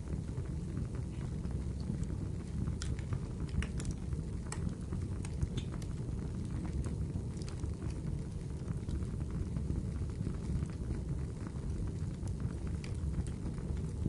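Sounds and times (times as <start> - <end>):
fire popping and snapping: 0.0 - 14.0
fire rumbling: 0.0 - 14.0.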